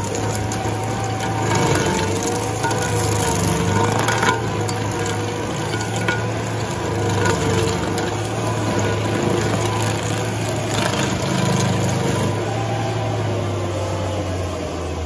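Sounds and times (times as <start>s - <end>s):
wood chips crackling hiss: 0.0s - 14.4s
stump grinder engine drone: 0.0s - 15.0s.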